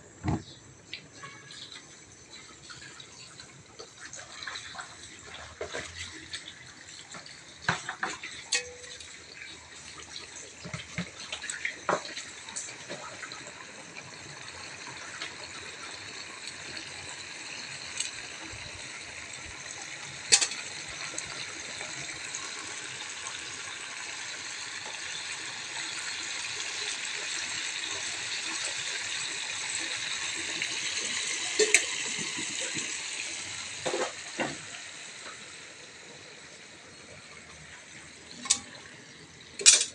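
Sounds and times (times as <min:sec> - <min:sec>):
fish sizzling in oil: 0:04.1 - 0:39.9.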